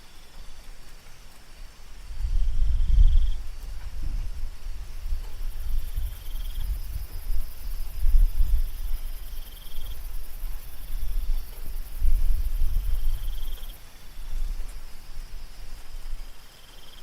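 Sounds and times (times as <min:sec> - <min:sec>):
crickets trilling: 0:00.0 - 0:17.0
short high insect call: 0:00.0 - 0:17.0.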